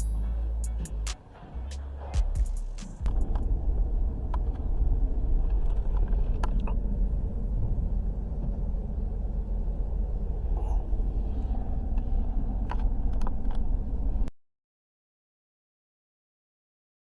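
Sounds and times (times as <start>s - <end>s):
vehicle engine rumbling: 0.0s - 14.3s.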